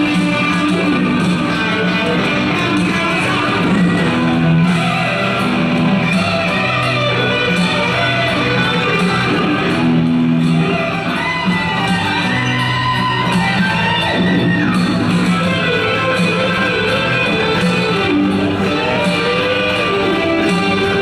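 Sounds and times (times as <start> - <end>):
live guitar-led music: 0.0 - 21.0.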